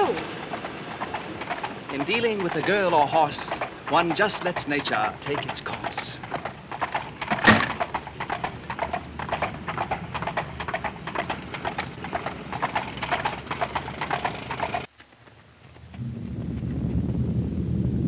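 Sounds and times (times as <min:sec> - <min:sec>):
horse hooves clip-clopping: 0:00.0 - 0:16.9.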